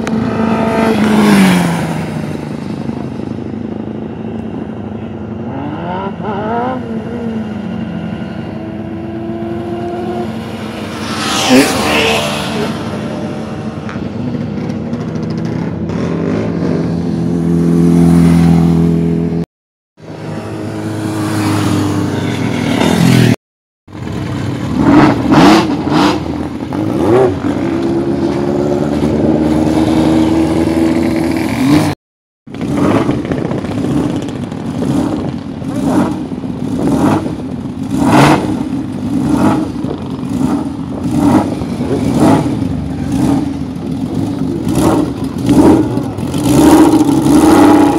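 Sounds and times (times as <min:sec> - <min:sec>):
racing motorcycles revving and passing: 0:00.0 - 0:19.4, 0:20.0 - 0:47.9.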